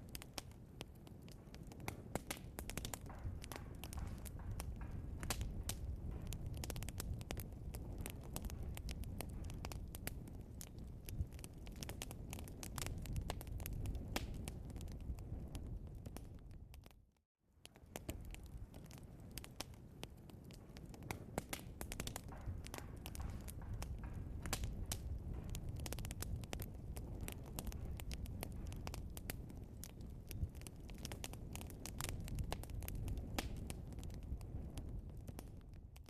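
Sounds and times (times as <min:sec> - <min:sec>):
log fire crackling and popping: 0:00.0 - 0:36.0.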